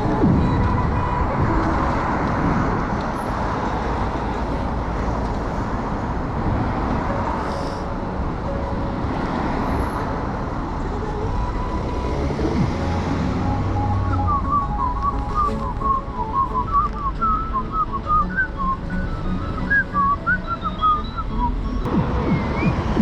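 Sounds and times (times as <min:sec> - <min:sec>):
road traffic noise: 0:00.0 - 0:23.0
wind rumble on microphone: 0:00.0 - 0:23.0.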